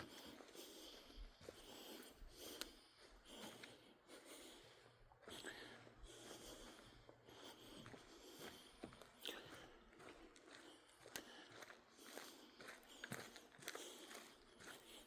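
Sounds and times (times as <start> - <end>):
person breathing: 0.0 - 15.0.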